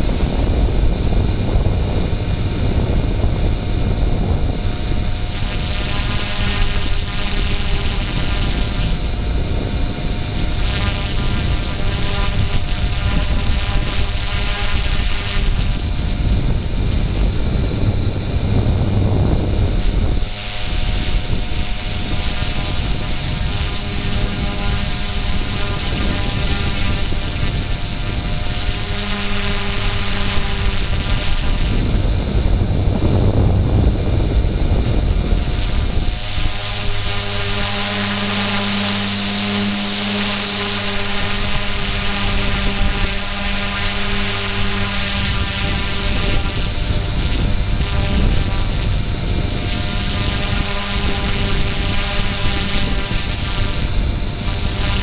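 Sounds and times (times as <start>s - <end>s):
rotor noise: 0.0s - 55.0s
toy helicopter motor whine: 0.0s - 55.0s.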